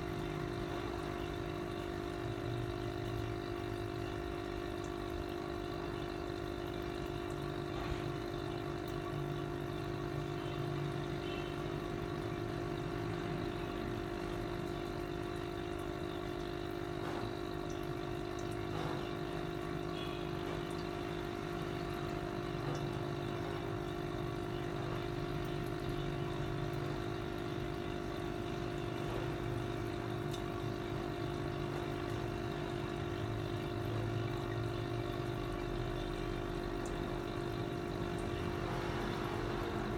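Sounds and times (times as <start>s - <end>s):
air pump humming: 0.0s - 39.9s.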